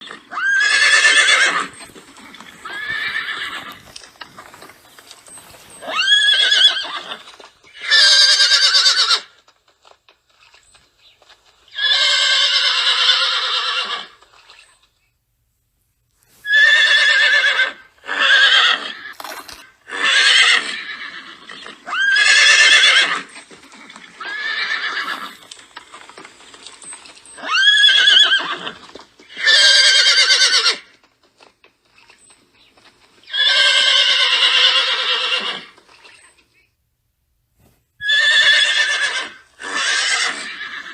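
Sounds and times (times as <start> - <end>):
horse whinnying: 0.0 - 9.4, 11.7 - 14.7, 16.4 - 31.0, 33.2 - 36.4, 38.0 - 40.9.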